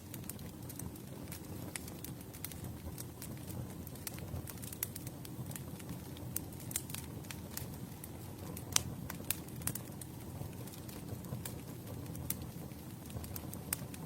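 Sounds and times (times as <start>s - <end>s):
campfire flames rumbling: 0.0s - 14.0s
wood crackling and popping: 0.0s - 14.0s.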